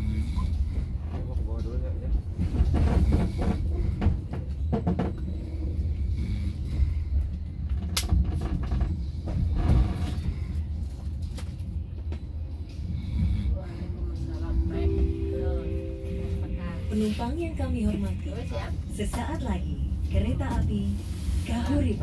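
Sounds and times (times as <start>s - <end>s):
train wheels rumbling on rails: 0.0s - 14.5s, 17.1s - 22.0s.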